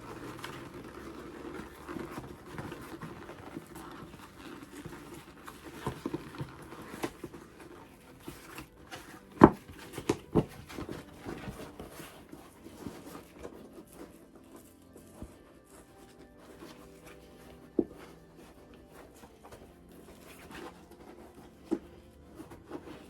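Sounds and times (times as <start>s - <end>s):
leather crunches: 0.0s - 23.0s
leather squeaking and creaking: 0.0s - 23.0s.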